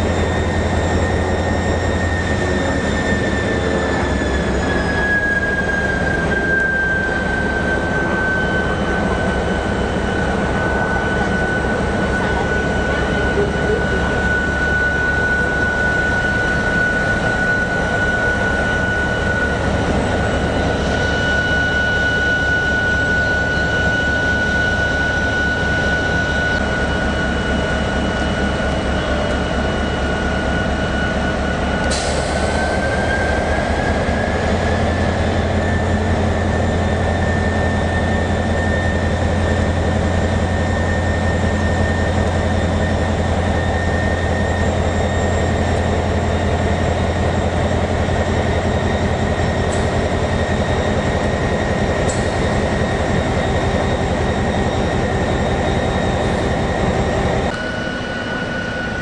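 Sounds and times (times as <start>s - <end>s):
high steady whine: 0.0s - 59.0s
locomotive pulsing rumble: 0.0s - 59.0s.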